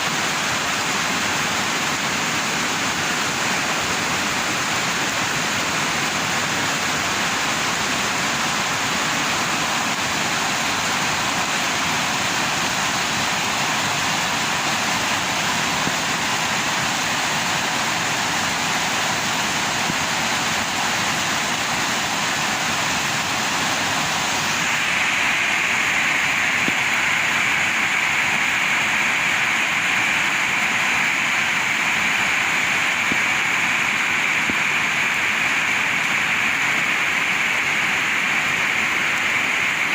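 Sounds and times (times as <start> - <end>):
heavy rain in strong wind: 0.0 - 39.9.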